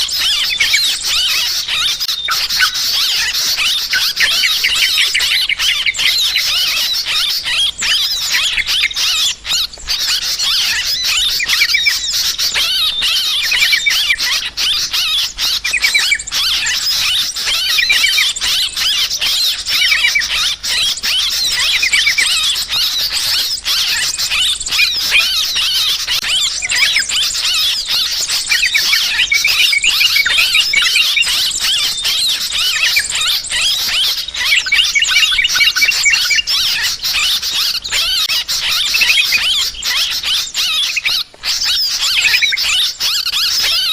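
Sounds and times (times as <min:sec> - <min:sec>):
bulbuls calling harshly: 0:00.0 - 0:43.9.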